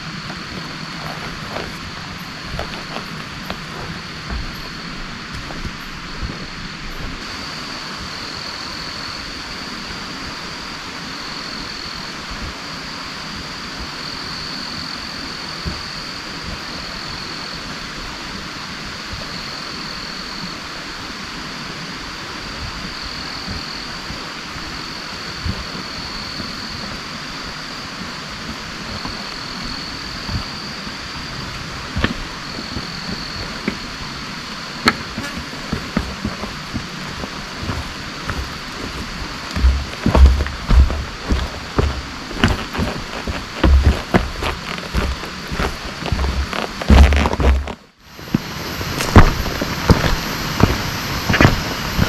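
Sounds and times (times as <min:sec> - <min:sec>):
high-pitched whine: 0:00.0 - 0:52.0.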